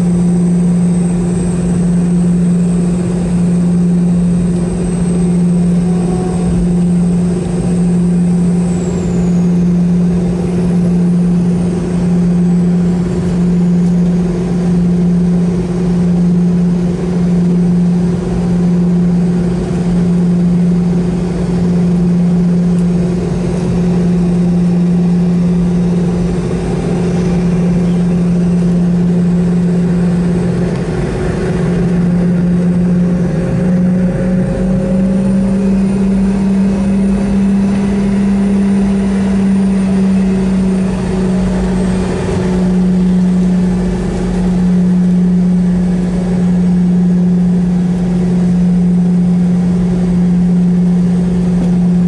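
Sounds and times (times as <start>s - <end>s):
jet engine idling drone: 0.0s - 52.0s.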